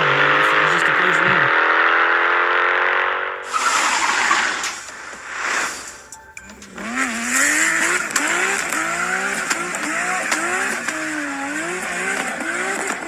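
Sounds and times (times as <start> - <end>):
car engine revving: 0.0 - 13.0
tyres squealing: 0.0 - 13.0.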